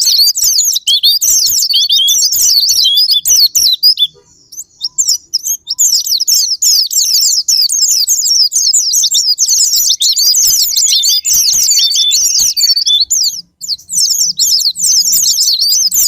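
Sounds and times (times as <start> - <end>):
birds twittering: 0.0 - 16.0.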